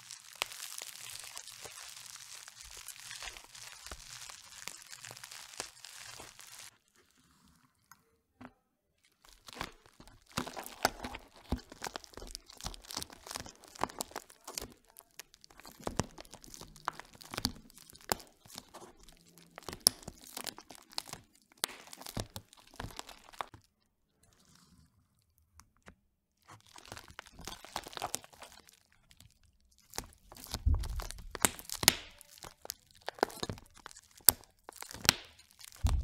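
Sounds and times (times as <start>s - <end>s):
plastic pouch crinkling and clicking: 0.0s - 6.8s, 9.1s - 23.7s, 26.5s - 36.0s.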